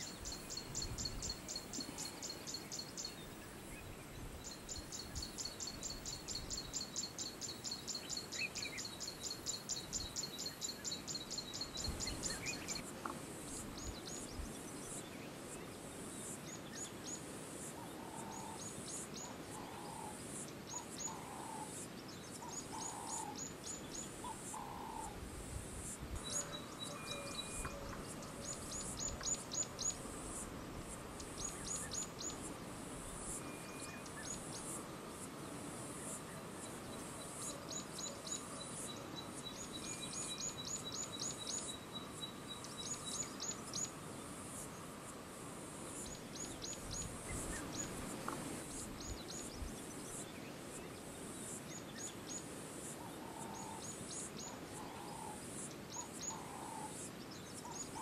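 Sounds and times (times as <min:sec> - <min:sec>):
steady high hiss: 0:00.0 - 0:58.0.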